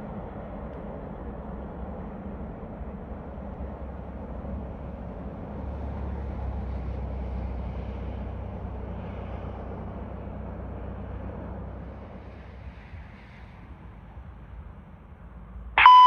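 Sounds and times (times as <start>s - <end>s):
freight train diesel rumble: 0.0s - 15.9s.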